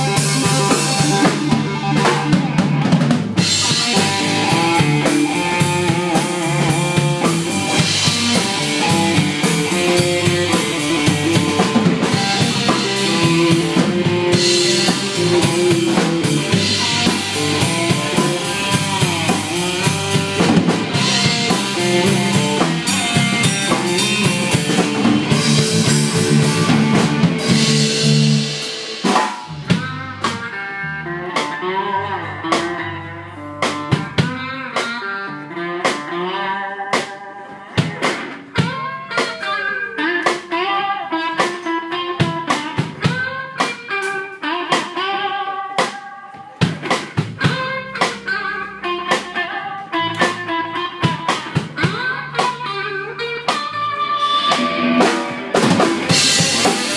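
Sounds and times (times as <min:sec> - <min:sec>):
drum kit playing: 0:00.0 - 0:56.9
electric guitar soloing: 0:00.0 - 0:56.9.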